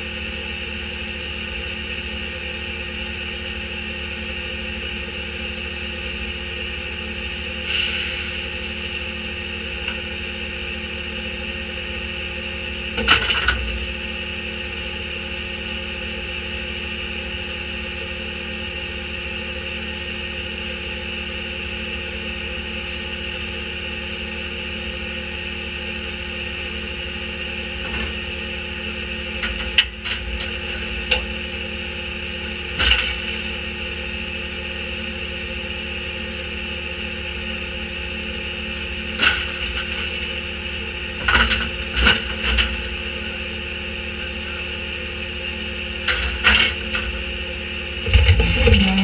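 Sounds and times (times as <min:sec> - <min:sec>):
garbage truck running: 0:00.0 - 0:49.0.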